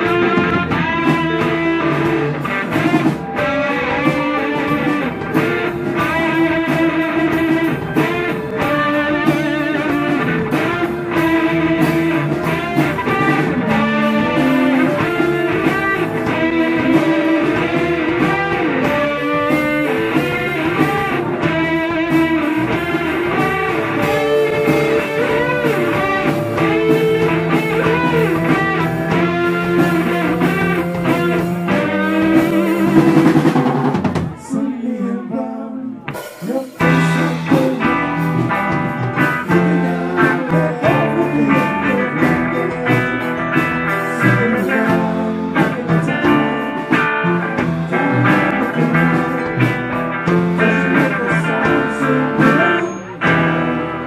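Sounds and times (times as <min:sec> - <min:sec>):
electric guitar: 0:00.0 - 0:54.0
live rock band playing: 0:00.0 - 0:54.0.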